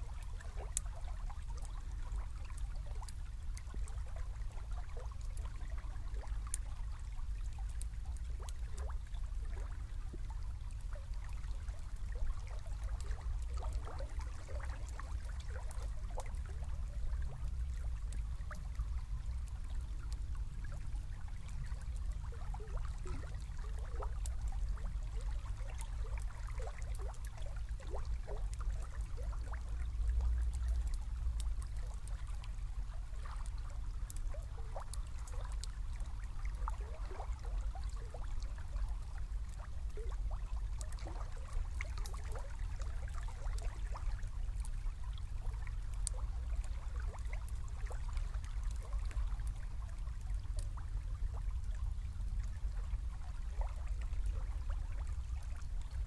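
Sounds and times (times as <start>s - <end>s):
river water bubbling: 0.0s - 56.0s.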